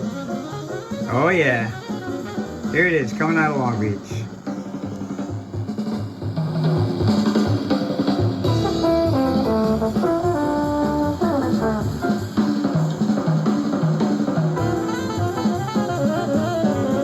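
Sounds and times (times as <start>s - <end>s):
jazz with horn and drums: 0.0s - 17.0s.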